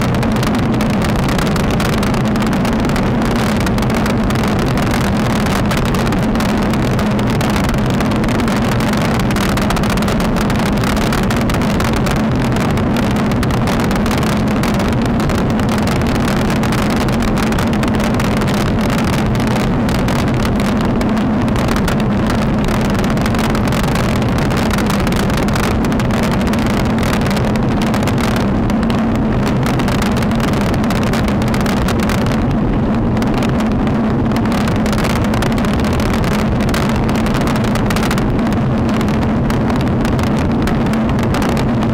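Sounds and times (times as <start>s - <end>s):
road rumble: 0.0s - 41.9s
wind buffeting microphone: 0.0s - 41.9s.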